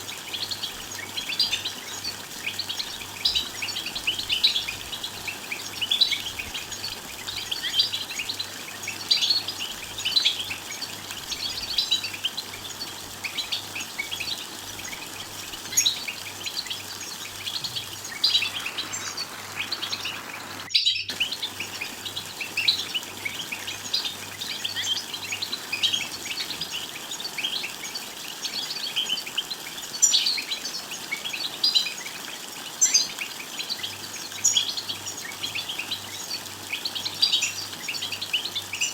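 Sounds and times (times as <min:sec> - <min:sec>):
goldfinch chirping and singing: 0:00.1 - 0:20.1, 0:20.8 - 0:32.1, 0:32.8 - 0:38.9.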